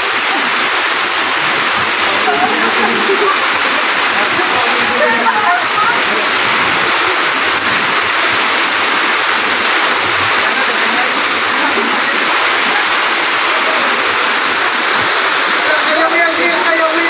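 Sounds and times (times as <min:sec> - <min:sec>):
waterfall rushing over rock: 0:00.0 - 0:17.0.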